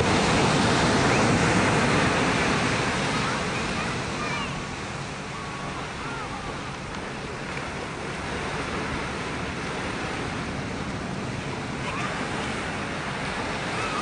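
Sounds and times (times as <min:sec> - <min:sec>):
waves breaking on beach: 0:00.0 - 0:14.0.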